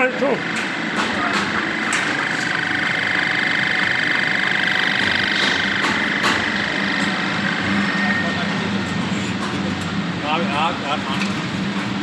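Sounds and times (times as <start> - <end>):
machinery whine and hum: 0.0 - 12.0.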